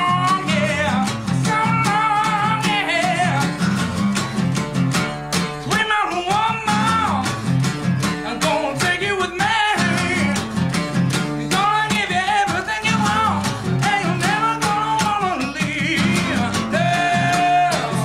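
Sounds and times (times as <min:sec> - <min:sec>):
man singing: 0:00.0 - 0:03.8, 0:05.4 - 0:18.0
strummed acoustic guitar: 0:00.0 - 0:18.0.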